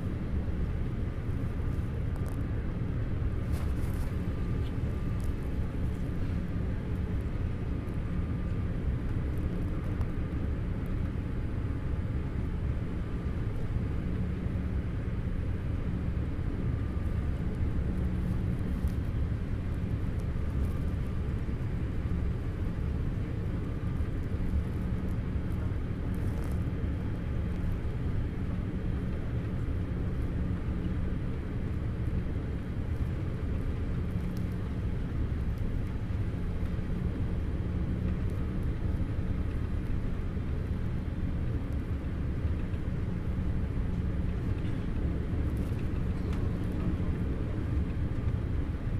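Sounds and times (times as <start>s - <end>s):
jet airliner cabin drone: 0.0s - 48.9s.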